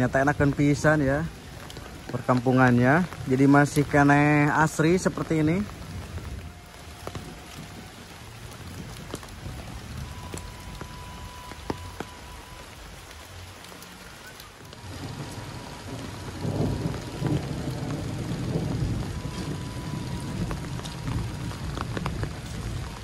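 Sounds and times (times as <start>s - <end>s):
rain on leaves and roofs: 0.0s - 23.0s
water drops ticking: 1.6s - 23.0s.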